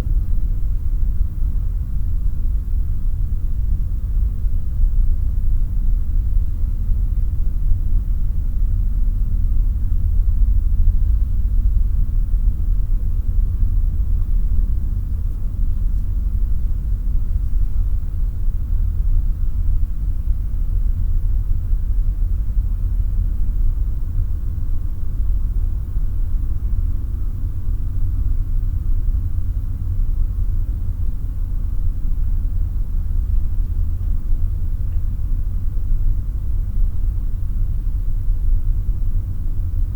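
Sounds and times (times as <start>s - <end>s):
low room rumble: 0.0s - 39.9s.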